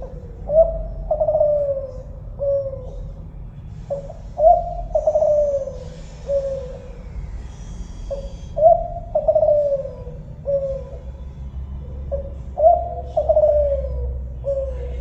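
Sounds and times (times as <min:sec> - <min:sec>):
dove cooing: 0:00.0 - 0:15.0
steady low hum: 0:00.0 - 0:15.0.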